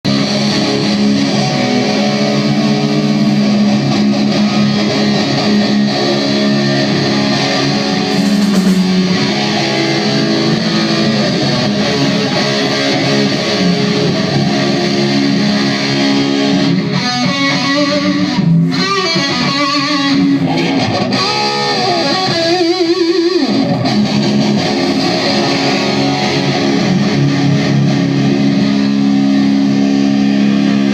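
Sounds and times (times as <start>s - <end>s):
distorted electric guitar: 0.0s - 30.9s.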